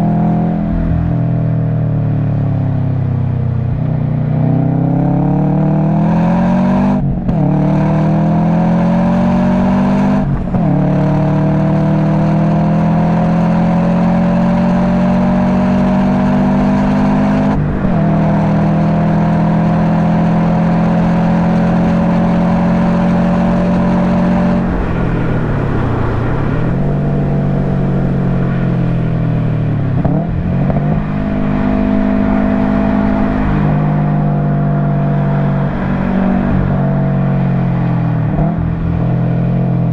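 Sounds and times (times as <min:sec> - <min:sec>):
car engine revving hard: 0:04.4 - 0:39.9.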